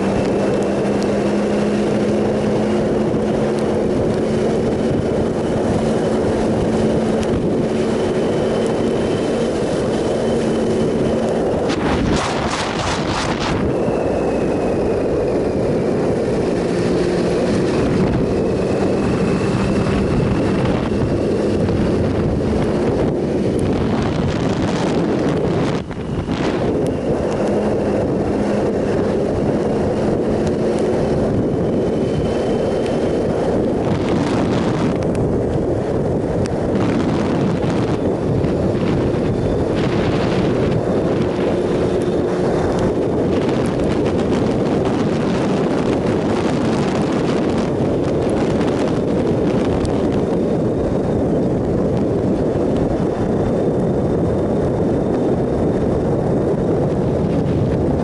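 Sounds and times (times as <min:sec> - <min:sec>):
motorcycle engine cruising: 0:00.0 - 0:58.0
wind roar on microphone: 0:00.0 - 0:58.0.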